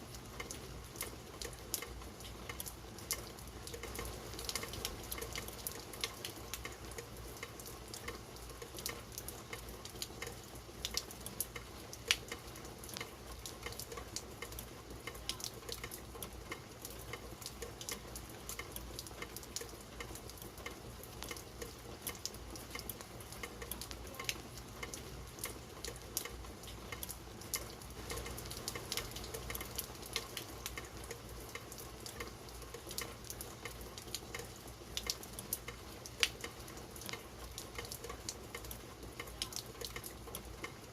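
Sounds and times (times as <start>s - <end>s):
raindrops ticking close by: 0.0s - 40.9s
steady rain hiss: 0.0s - 40.9s.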